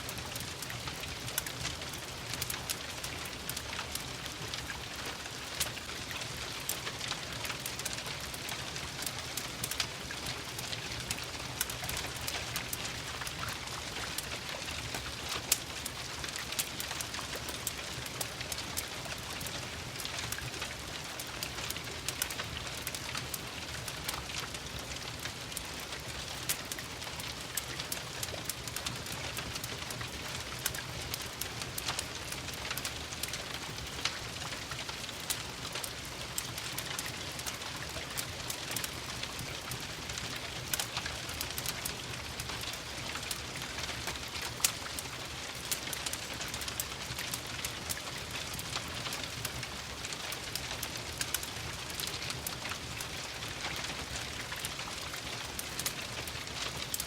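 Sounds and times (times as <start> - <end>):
rain patter: 0.0 - 57.0
wood fire crackling: 0.0 - 57.0.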